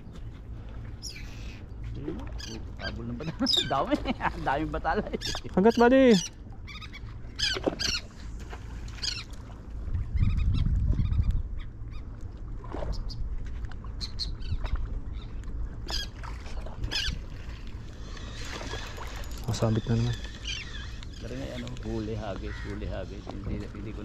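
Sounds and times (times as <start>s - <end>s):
water: 0.0s - 24.0s
wind: 0.0s - 24.0s
birds calling: 0.9s - 12.1s, 14.0s - 24.0s.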